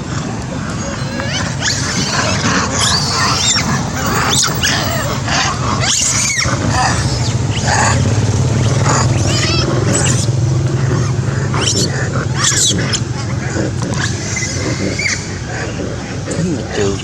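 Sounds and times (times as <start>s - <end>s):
monkey screaming: 0.0s - 17.0s
steady low hum: 1.8s - 17.0s.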